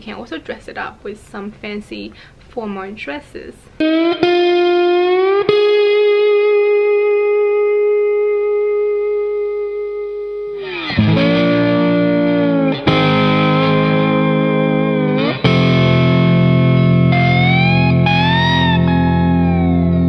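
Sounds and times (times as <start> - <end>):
guitar chords: 3.7 - 20.0.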